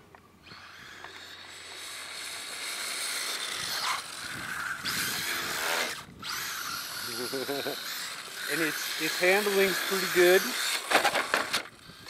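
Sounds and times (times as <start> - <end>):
rc car motor and tyres hissing: 0.3 - 12.0.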